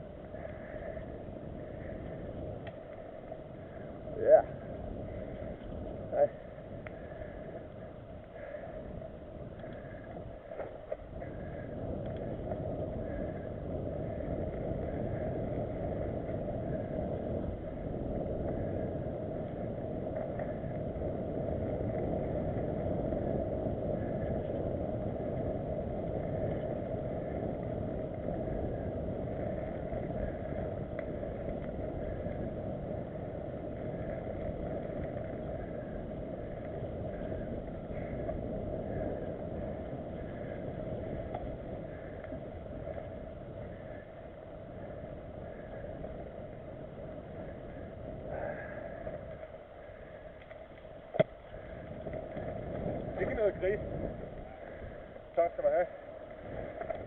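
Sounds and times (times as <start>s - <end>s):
bike tyres rumbling on dirt: 0.0s - 57.0s.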